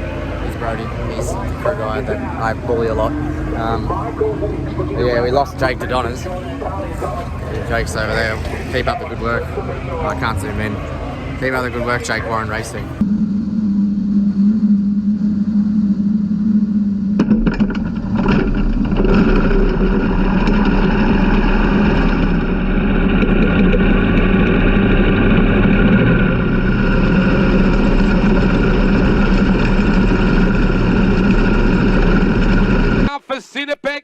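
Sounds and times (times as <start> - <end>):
racing car engines running: 0.0 - 33.1.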